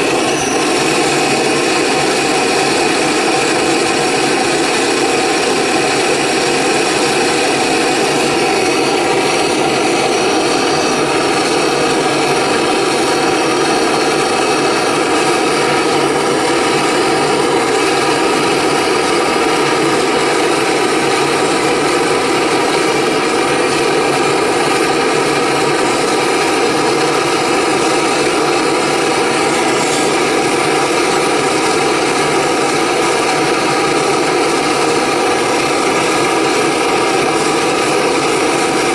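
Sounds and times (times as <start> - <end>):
gas torch flame rushing: 0.0 - 38.9.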